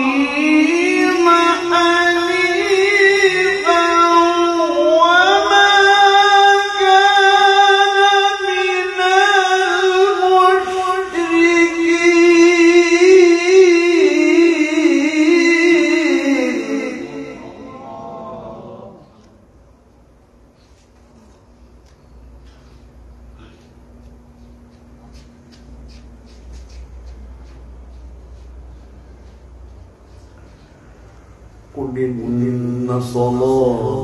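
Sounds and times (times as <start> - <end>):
high voice chanting recitation: 0.0 - 19.4, 25.9 - 34.0.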